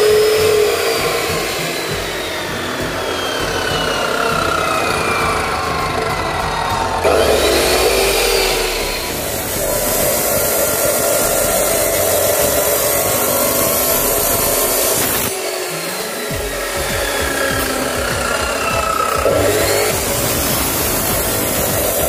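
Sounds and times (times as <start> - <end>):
abrasive disc grinding steel: 0.0 - 22.0
motor running: 0.0 - 22.0.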